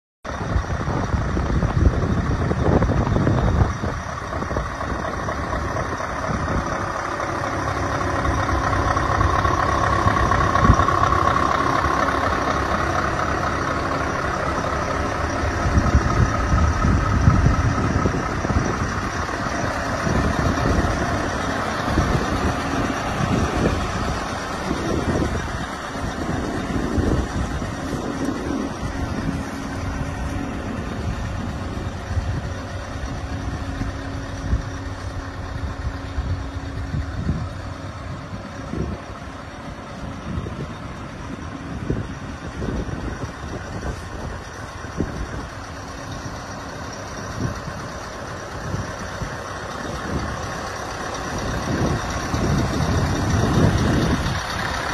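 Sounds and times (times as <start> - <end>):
truck engine rumbling: 0.2 - 54.9.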